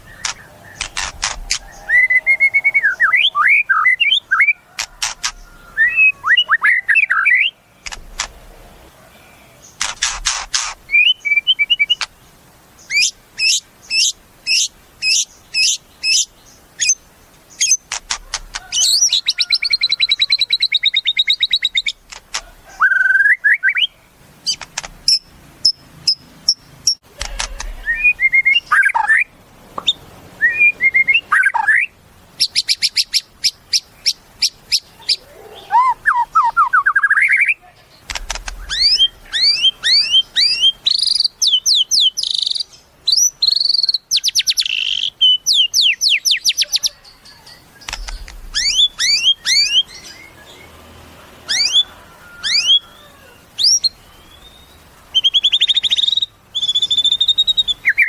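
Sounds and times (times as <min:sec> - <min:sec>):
songbird singing varied song: 0:00.0 - 0:58.0.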